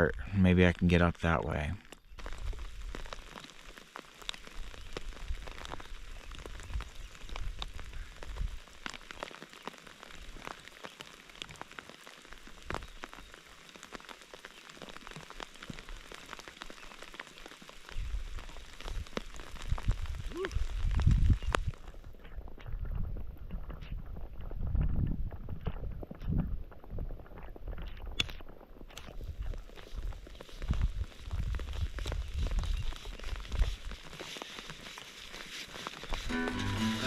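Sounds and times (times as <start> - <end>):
rain pattering: 0.0 - 37.0.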